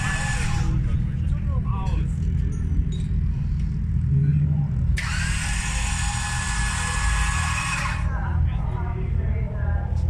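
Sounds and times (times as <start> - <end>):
high-pitched mechanical whine: 0.0 - 10.0
low rumble: 0.0 - 10.0.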